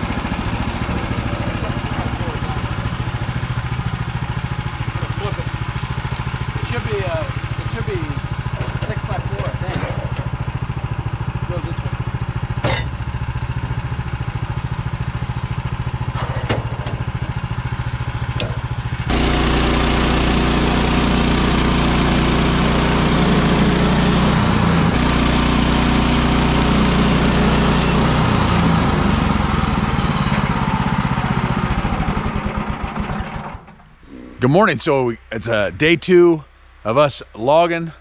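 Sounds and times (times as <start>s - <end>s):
small gasoline engine running: 0.0s - 33.8s.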